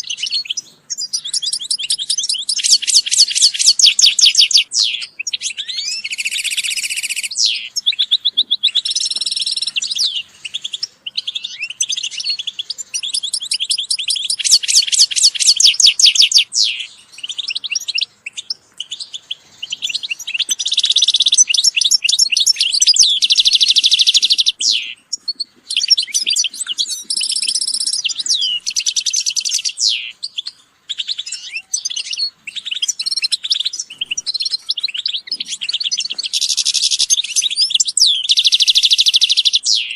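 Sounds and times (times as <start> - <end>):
finches singing and twittering: 0.0 - 39.9.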